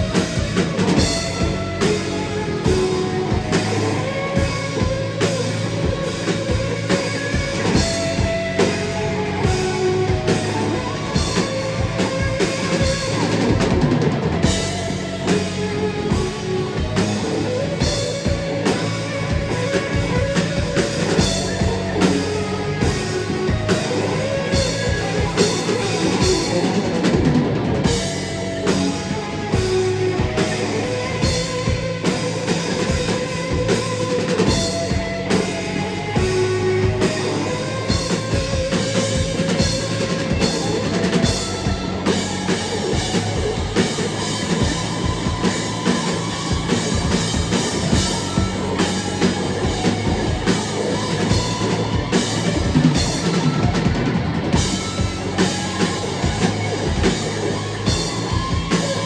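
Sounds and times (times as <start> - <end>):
drum kit playing: 0.0 - 59.0
rock band music: 0.0 - 59.0.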